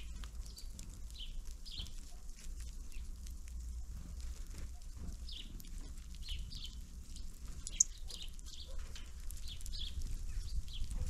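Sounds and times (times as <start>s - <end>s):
songbirds chirping: 0.0s - 11.0s
steady low rumble: 0.0s - 11.0s.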